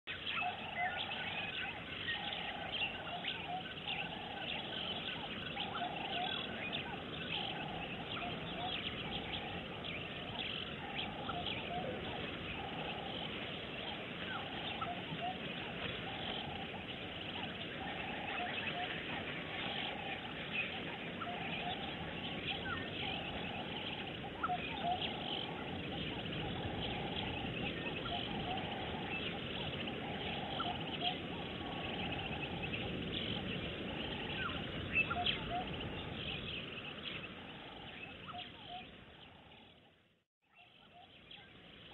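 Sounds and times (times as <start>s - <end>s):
birds chirping: 0.0s - 41.9s
low repeating bird call: 0.1s - 40.0s.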